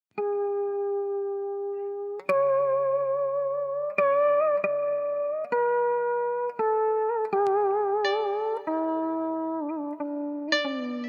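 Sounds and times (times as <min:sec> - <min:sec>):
plucked guitar notes with vibrato: 0:00.1 - 0:11.0.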